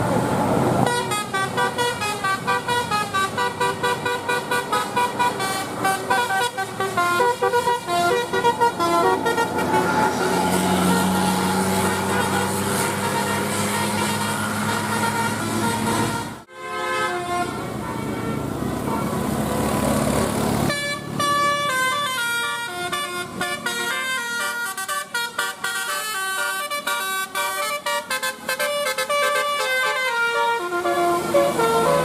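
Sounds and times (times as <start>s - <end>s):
bus and road noise: 0.0s - 32.0s
musical air horn melody: 0.8s - 19.1s, 20.7s - 32.0s.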